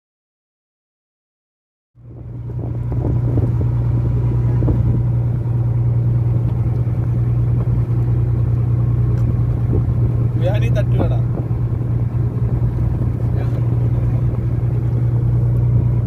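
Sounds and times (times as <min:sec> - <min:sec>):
boat engine droning: 0:02.0 - 0:16.0.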